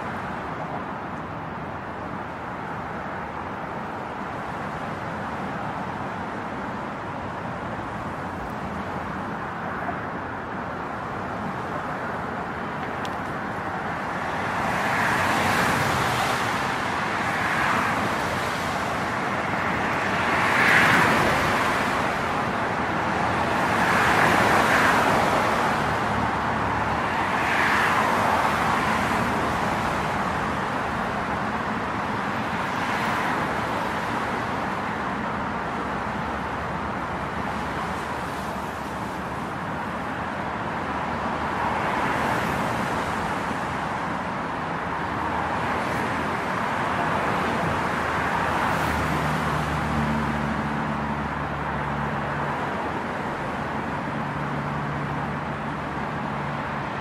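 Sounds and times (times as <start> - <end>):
cars passing: 0.0 - 57.0
traffic hum: 0.0 - 57.0.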